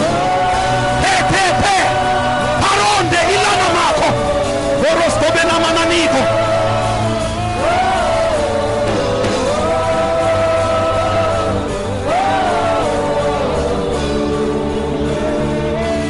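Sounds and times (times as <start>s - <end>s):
instrumental backing music: 0.0s - 16.0s
people singing long held notes: 0.0s - 16.0s.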